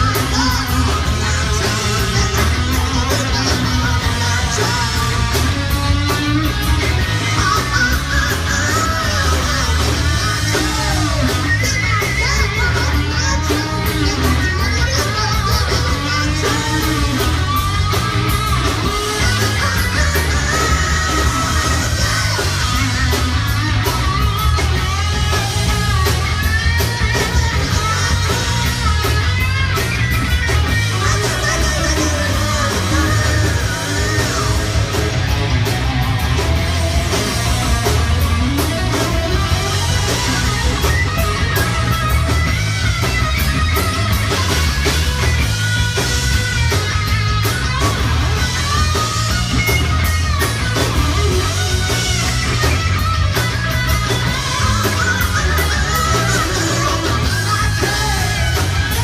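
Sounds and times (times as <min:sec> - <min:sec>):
heavy electric guitar: 0:00.0 - 0:59.0
rock band playing live: 0:00.0 - 0:59.0.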